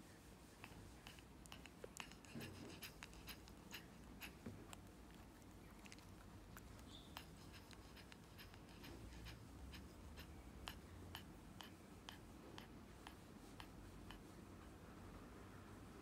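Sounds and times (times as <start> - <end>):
dog rapid breathing: 0.5 - 14.7.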